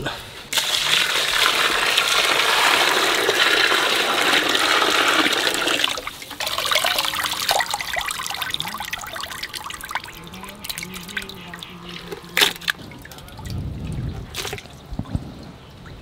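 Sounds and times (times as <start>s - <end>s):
water pouring into metal bowl: 0.5s - 14.7s
wet splashes and drips: 0.5s - 16.0s.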